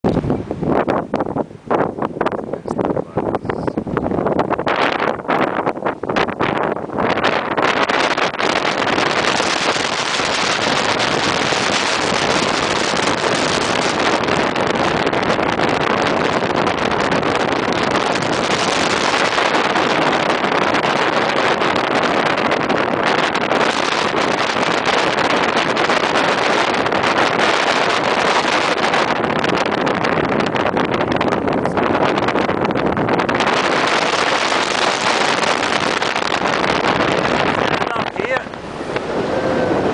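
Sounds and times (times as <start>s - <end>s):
strong wind on microphone: 0.0s - 39.9s.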